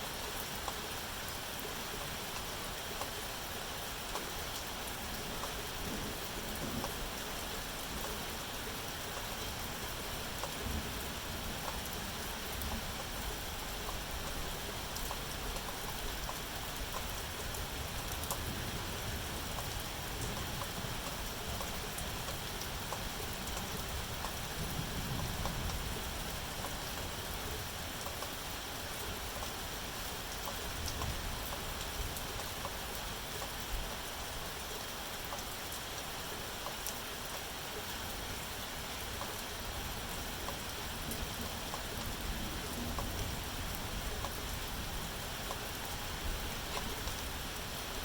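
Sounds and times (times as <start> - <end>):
steady rain hiss: 0.0 - 48.0
rain drop ticks: 4.1 - 8.2, 9.1 - 18.5, 19.4 - 47.8.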